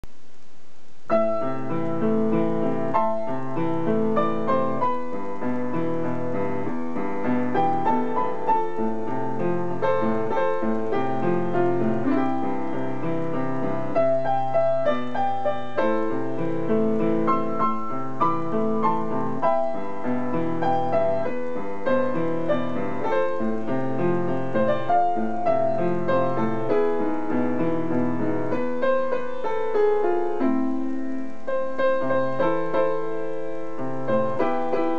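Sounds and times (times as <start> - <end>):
solo piano pop arrangement: 0.1 - 34.9.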